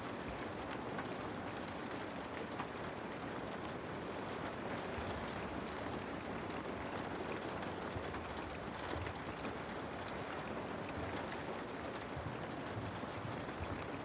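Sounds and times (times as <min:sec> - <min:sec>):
rain on a window: 0:00.0 - 0:14.0.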